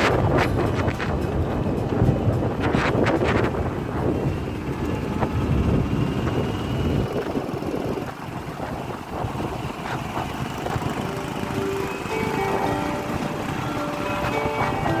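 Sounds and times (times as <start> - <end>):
road and traffic rumble: 0.0 - 15.0
wind buffeting microphone: 0.0 - 15.0.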